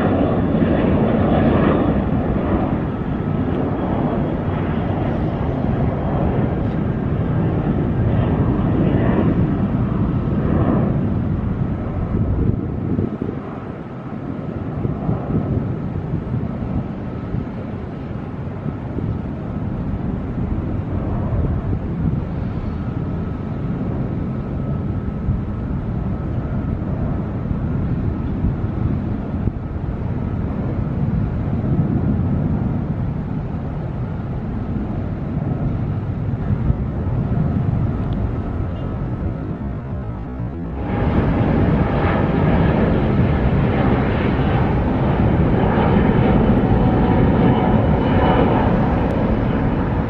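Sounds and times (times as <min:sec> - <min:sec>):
distant jet airliner engines rumbling: 0:00.0 - 0:50.0
wind noise on microphone: 0:00.0 - 0:50.0.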